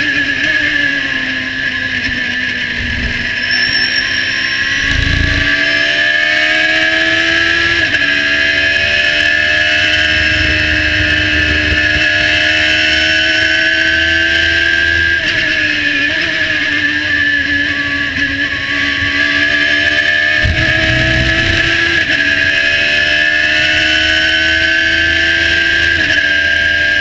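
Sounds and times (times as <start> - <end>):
race car engine at full throttle: 0.0 - 27.0
wind and road noise: 0.5 - 15.8, 17.7 - 25.5.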